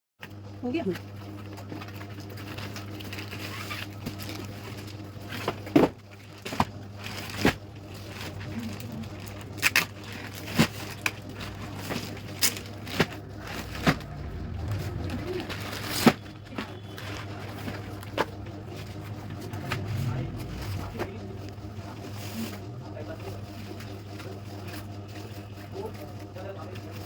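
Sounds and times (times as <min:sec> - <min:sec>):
steady low hum: 0:00.2 - 0:27.0.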